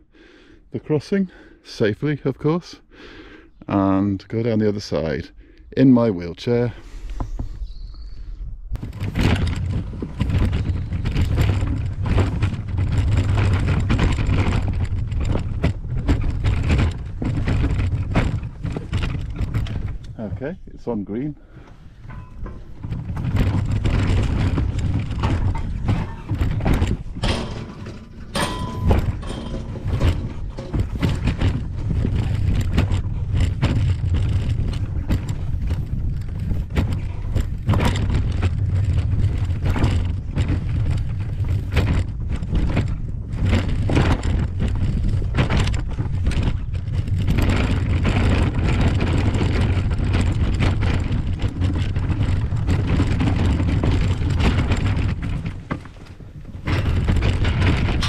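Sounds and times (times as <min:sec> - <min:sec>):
wheelchair rolling rumble: 0:08.7 - 0:58.0
wheels knocking and rattling: 0:08.7 - 0:58.0.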